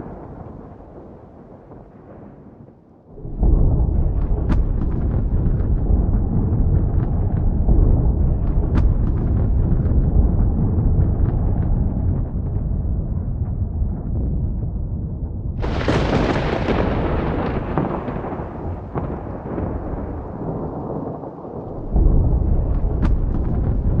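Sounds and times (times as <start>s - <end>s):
crackles in thunder: 0.0s - 24.0s
thunderclap with deep rumble: 0.0s - 24.0s.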